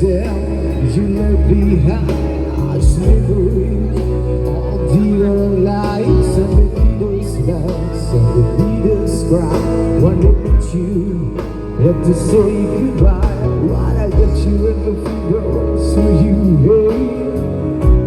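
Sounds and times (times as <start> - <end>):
bass line: 0.0 - 18.0
live band playing over pa: 0.0 - 18.0.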